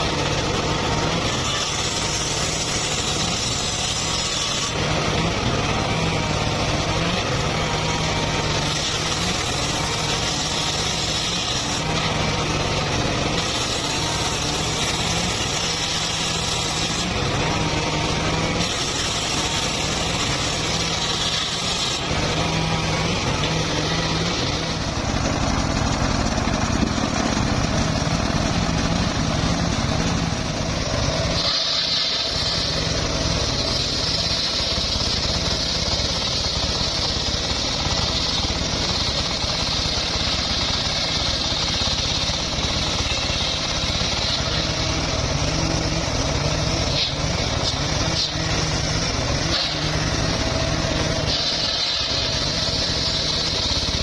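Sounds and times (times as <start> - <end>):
power saw cutting wood: 0.0 - 54.0.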